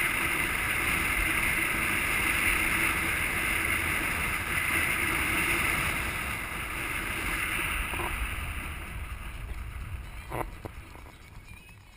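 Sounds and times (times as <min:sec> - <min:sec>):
wind rushing over camera: 0:00.0 - 0:11.5
road noise: 0:00.0 - 0:11.9.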